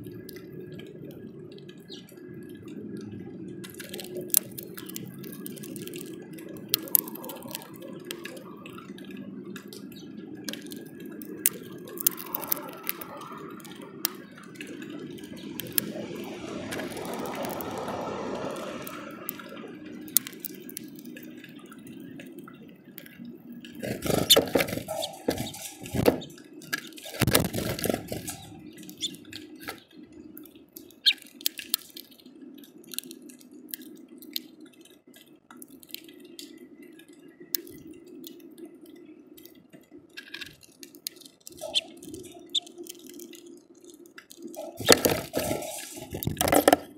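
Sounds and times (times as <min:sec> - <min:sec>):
rain drips on plastic: 0:00.0 - 0:46.9.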